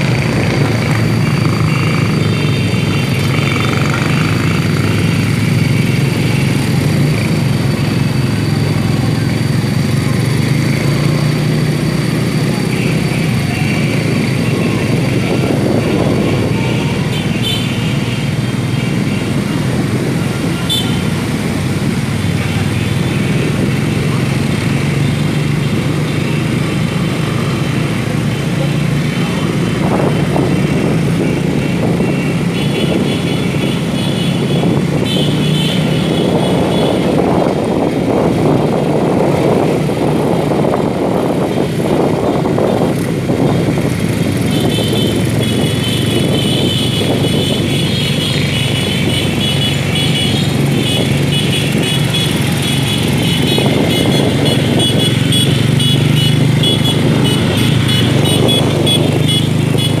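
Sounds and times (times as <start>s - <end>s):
motorcycle engines running: 0.0s - 60.0s
wind and road noise: 0.0s - 60.0s.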